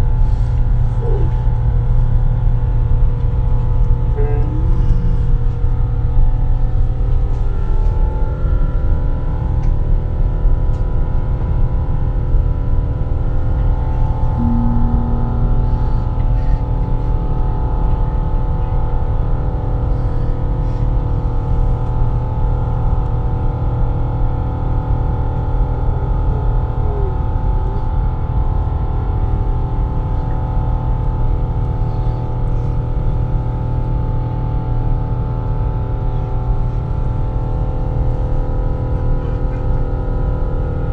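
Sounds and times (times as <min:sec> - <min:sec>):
airliner cabin engine drone: 0:00.0 - 0:40.9
steady humming tones: 0:00.0 - 0:40.9.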